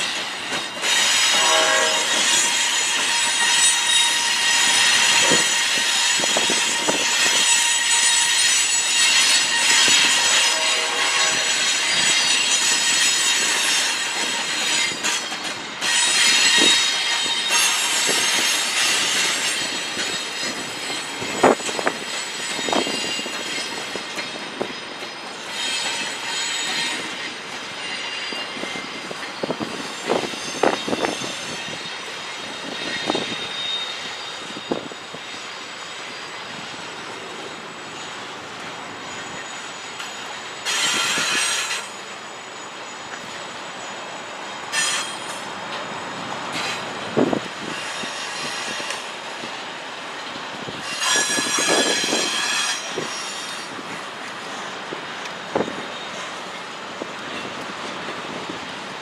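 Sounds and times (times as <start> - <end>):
freight train cars rolling: 0.0 - 59.0
steel wheels squealing on rails: 0.0 - 59.0.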